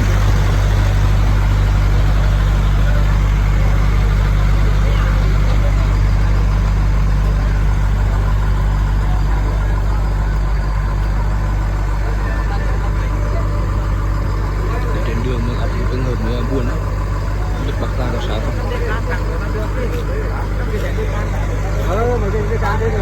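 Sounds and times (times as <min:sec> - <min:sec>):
truck engine droning: 0:00.0 - 0:23.0.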